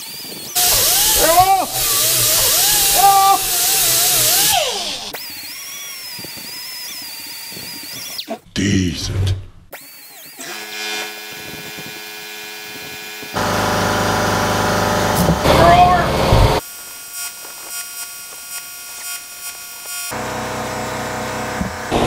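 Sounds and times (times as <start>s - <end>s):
handheld rotary power tool running: 0.0s - 8.3s, 9.8s - 22.0s.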